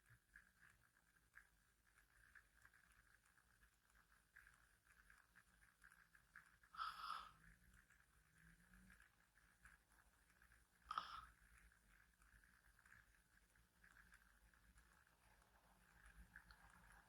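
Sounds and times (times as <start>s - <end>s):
thin steady hum: 0.0s - 17.0s.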